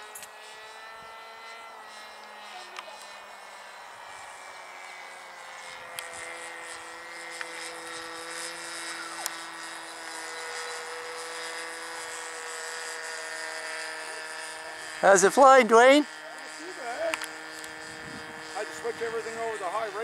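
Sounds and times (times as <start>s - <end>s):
model plane engine buzzing: 0.0s - 20.0s.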